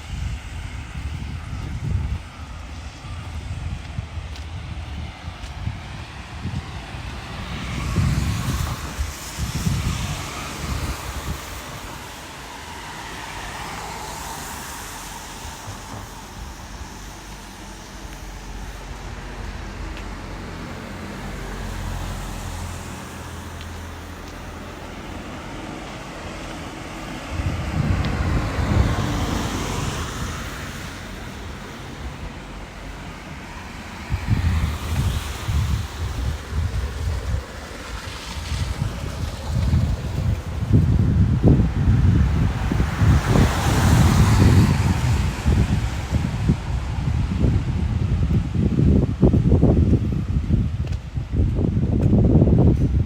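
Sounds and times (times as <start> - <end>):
cars passing on wet street: 0.0 - 53.0
wind buffeting microphone: 0.0 - 53.0.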